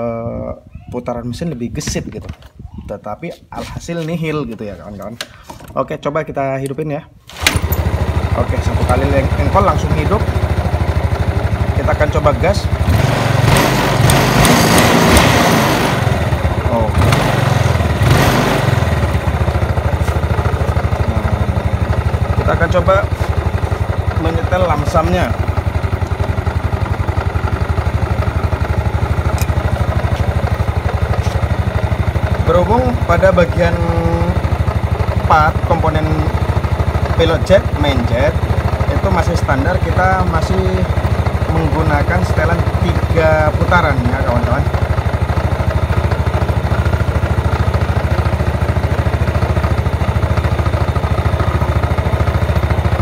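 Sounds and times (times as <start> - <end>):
scooter engine idling: 7.3 - 53.0.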